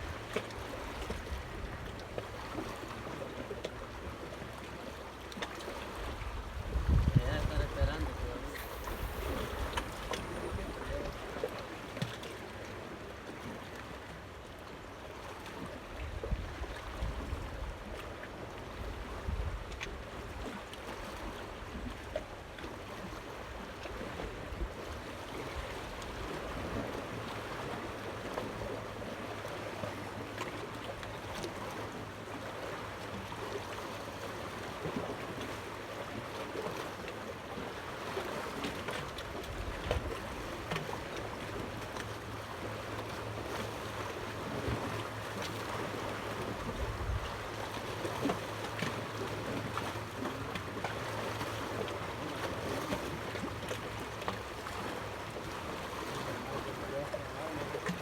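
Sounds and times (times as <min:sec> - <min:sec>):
water lapping: 0:00.0 - 0:58.0.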